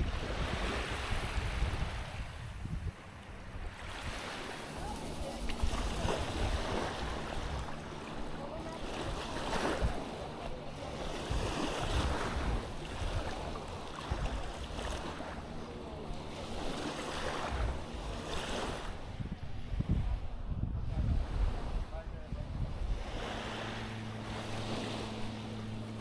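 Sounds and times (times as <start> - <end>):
waves washing onto sand: 0.0 - 26.0
wind rumbling on microphone: 0.0 - 26.0.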